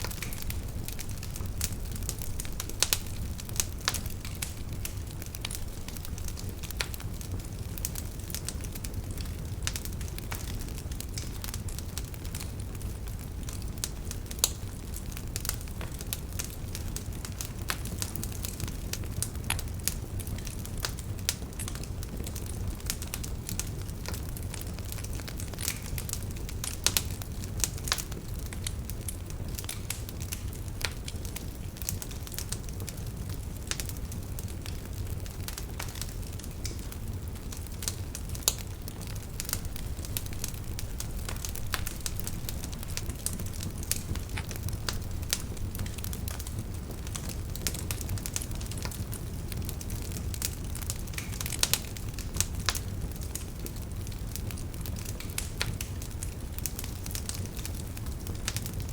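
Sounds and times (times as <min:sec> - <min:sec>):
fire crackles and pops: 0:00.0 - 0:58.9
fire rumble and hiss: 0:00.0 - 0:58.9.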